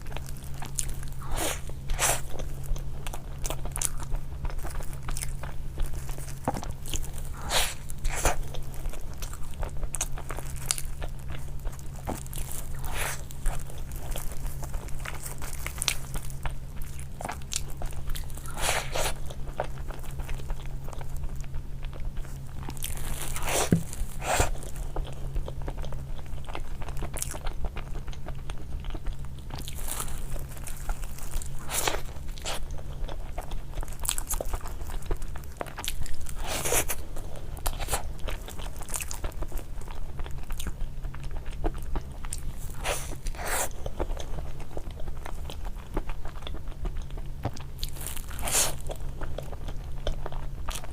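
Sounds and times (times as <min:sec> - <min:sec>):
person crunching crunchy food: 0:00.0 - 0:50.9
steady low hum: 0:00.0 - 0:50.9.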